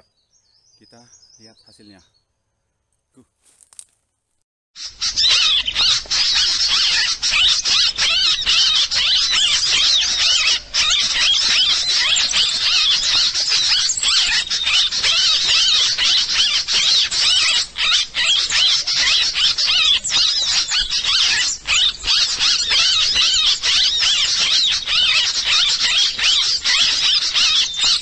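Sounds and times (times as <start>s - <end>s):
chorus of high bird chirps: 0.0s - 2.4s, 4.8s - 28.0s.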